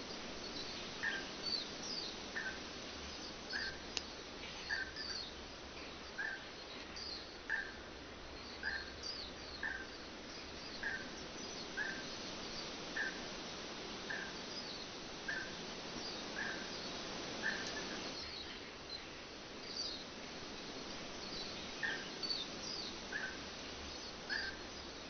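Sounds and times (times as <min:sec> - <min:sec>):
background hiss: 0:00.0 - 0:25.0
songbirds chirping: 0:00.0 - 0:25.0.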